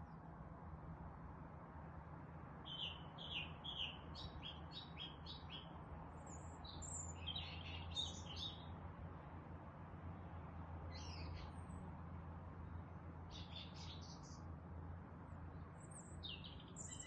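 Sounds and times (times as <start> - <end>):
songbirds chirping: 2.5 - 17.0.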